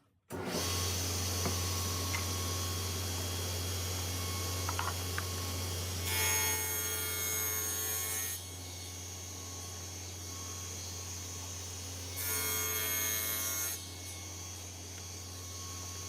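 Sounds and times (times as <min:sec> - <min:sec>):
power saw cutting plywood: 0:00.3 - 0:16.0.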